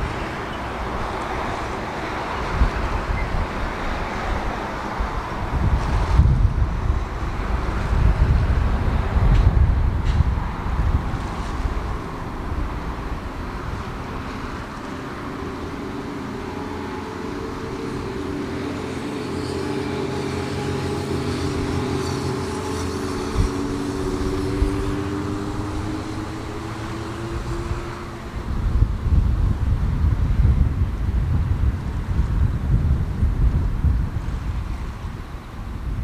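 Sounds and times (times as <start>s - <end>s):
engine drone: 0.0s - 32.4s
wind buffeting microphone: 0.0s - 36.0s.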